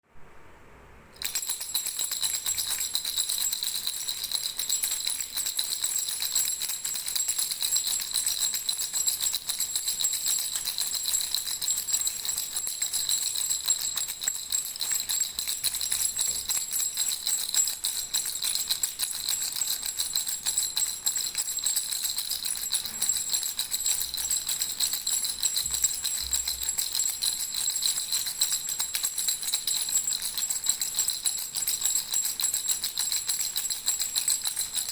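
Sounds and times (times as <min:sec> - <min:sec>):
baby rattle jingling: 0:01.2 - 0:34.9.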